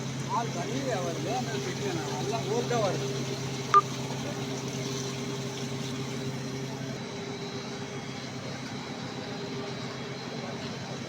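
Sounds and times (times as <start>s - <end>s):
milling machinery humming: 0.0s - 11.0s.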